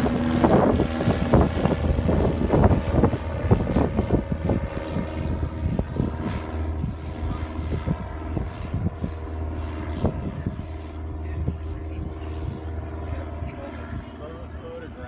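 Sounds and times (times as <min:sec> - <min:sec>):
light plane propeller engine droning: 0:00.0 - 0:15.0.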